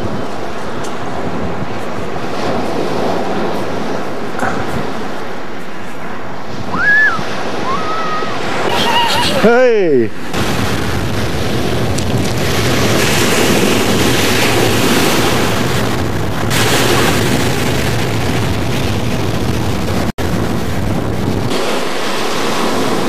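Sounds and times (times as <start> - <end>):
small waves breaking: 0.0 - 17.6, 21.5 - 23.0
surf washing up a shingle shore: 0.0 - 23.0
wind buffeting the microphone: 0.0 - 23.0.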